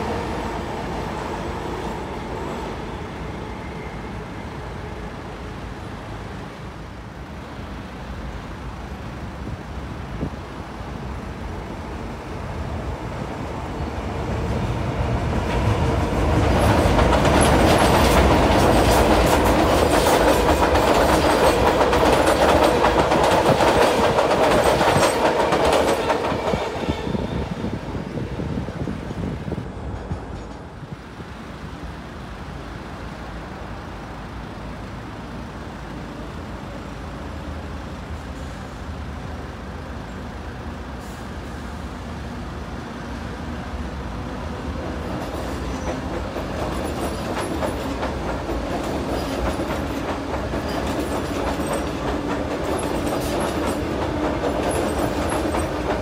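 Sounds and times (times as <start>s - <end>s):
electric train passing: 0.0s - 56.0s.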